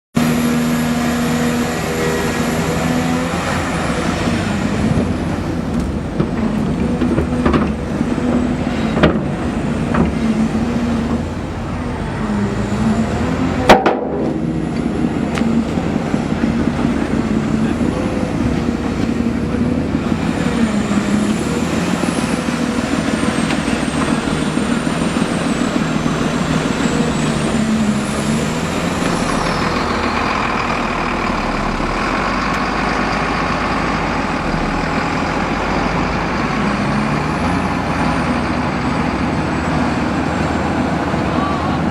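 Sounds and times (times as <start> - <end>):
heavy diesel machine running: 0.2 - 41.9.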